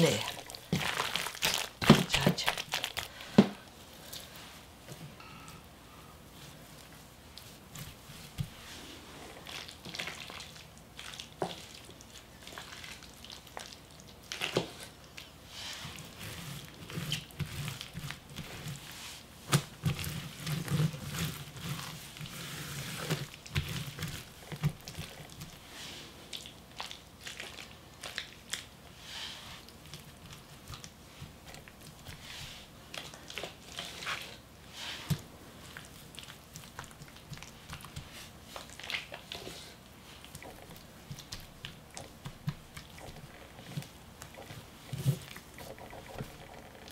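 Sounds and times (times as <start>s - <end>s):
hands squelching wet paste: 7.3s - 46.9s.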